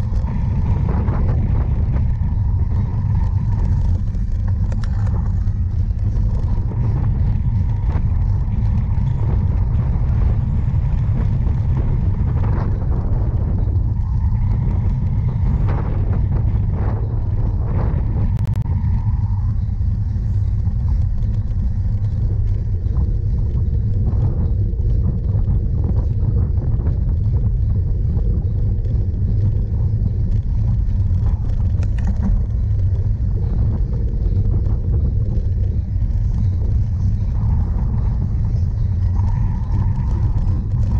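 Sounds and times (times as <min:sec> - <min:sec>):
wind and tyres rumbling: 0:00.0 - 0:40.9.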